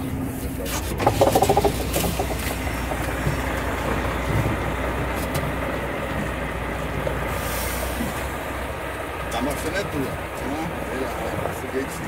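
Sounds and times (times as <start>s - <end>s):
road and wind noise: 0.0s - 12.0s
truck diesel engine running: 0.0s - 12.0s.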